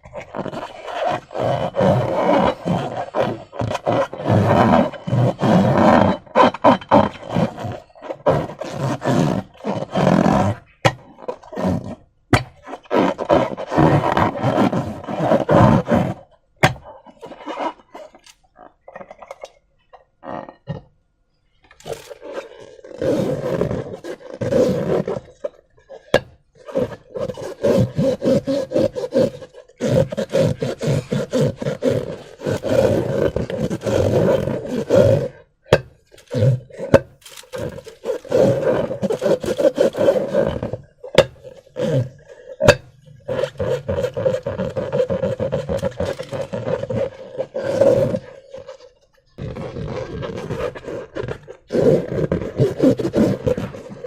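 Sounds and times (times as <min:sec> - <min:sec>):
balloons rubbing and squeaking: 0:00.0 - 0:54.0.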